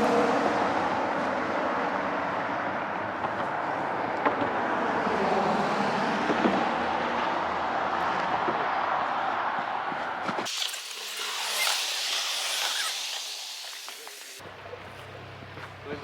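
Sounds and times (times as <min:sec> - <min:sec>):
road traffic rushing: 0:00.0 - 0:14.6.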